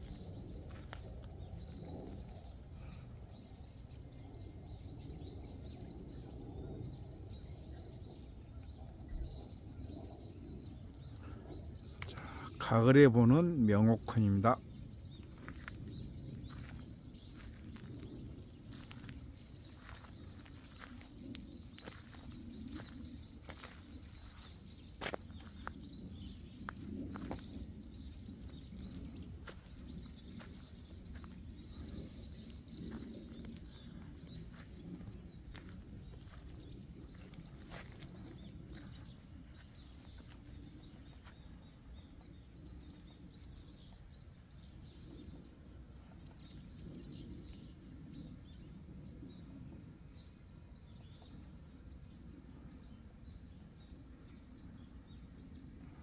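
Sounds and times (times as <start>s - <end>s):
low outdoor rumble: 0.0s - 56.0s
small birds chirping: 0.0s - 56.0s.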